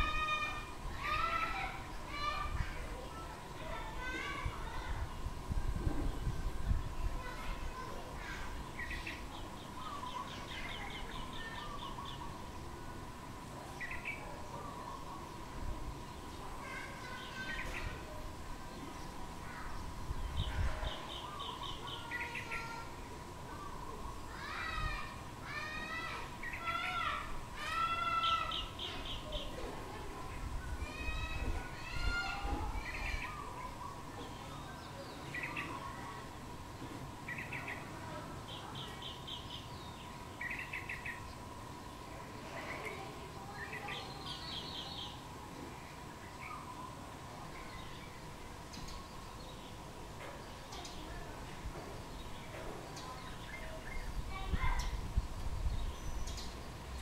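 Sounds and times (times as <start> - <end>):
steady background noise: 0.0 - 57.0.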